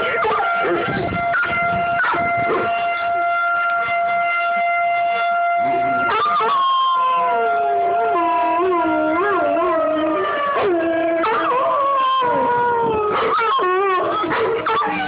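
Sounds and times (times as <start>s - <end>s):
dogs howling: 0.0s - 3.8s, 5.2s - 15.0s
fire siren steady tone: 0.0s - 15.0s.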